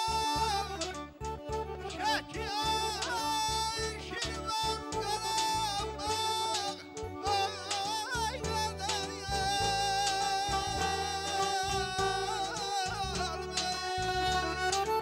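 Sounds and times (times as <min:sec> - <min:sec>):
clarinet: 0:00.0 - 0:15.0
plucked lute: 0:00.0 - 0:15.0
pulsing bass beat: 0:00.0 - 0:15.0
man singing into a microphone: 0:02.0 - 0:15.0.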